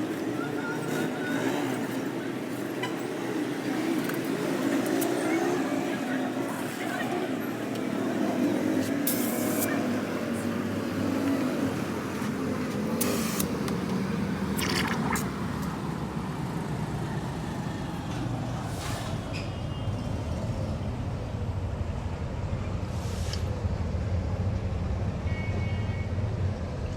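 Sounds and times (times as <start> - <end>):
motor vehicles rumbling: 0.0 - 25.2.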